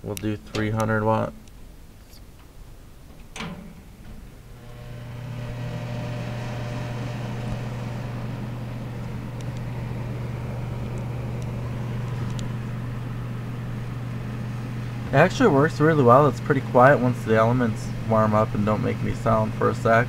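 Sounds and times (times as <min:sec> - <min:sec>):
heater fan motor whirring: 0:00.0 - 0:20.0
mains hum: 0:00.0 - 0:20.0.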